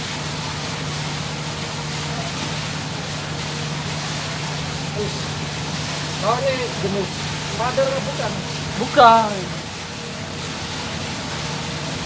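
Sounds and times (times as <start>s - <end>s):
marine engine running: 0.0s - 12.0s.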